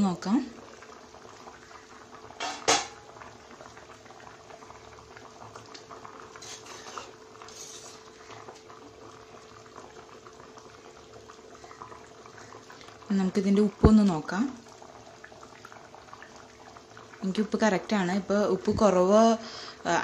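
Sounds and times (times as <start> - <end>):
curry bubbling in clay pot: 0.0 - 20.0.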